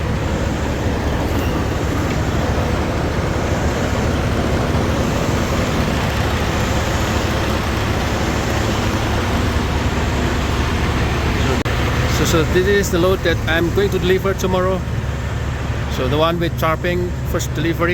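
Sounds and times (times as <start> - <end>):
diesel truck engines idling: 0.0 - 17.9.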